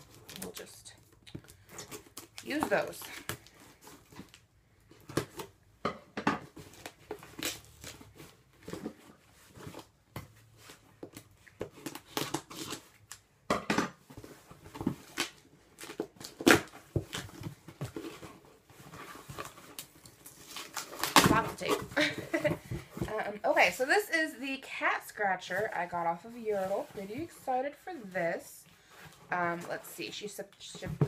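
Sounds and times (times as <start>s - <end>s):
cardboard rustling and scraping: 1.6s - 5.6s, 6.4s - 13.0s, 14.0s - 24.3s, 24.9s - 31.0s.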